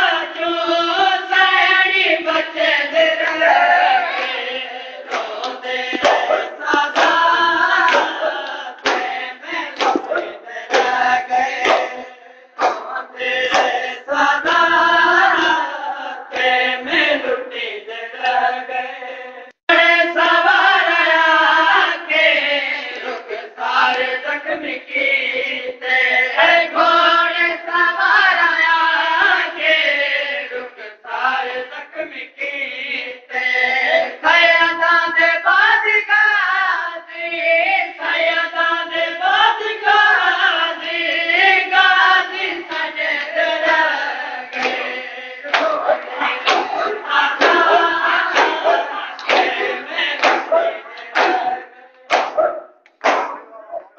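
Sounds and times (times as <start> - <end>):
group of voices chanting a lament: 0.0 - 53.9.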